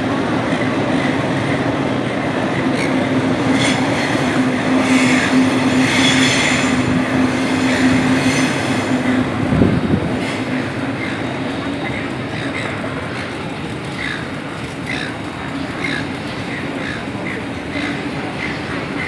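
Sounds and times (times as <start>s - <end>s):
electric train running past: 0.0s - 19.0s
wheels squealing on rails: 0.0s - 19.0s.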